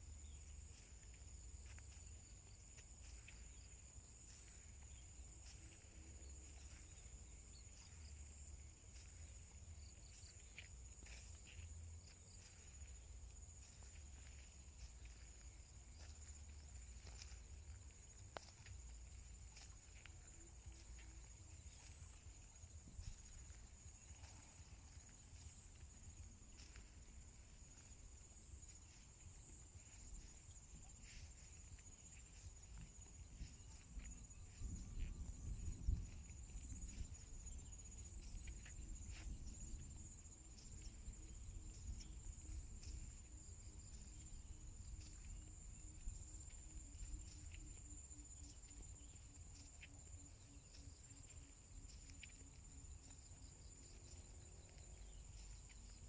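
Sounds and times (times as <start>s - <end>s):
faint footsteps on wet path: 0.0s - 56.0s
insects chirring: 0.0s - 56.0s.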